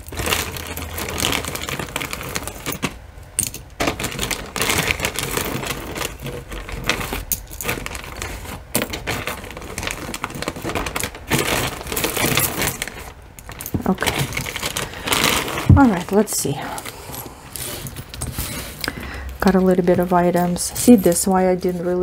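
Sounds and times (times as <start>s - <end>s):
jewelry clinking and rattling: 0.0s - 22.0s.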